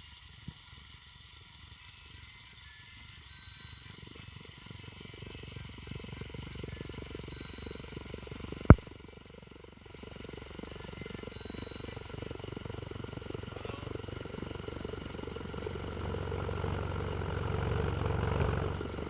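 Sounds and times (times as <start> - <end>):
car engine running: 1.2 - 19.0
rapid valve tappet ticking: 3.0 - 19.0.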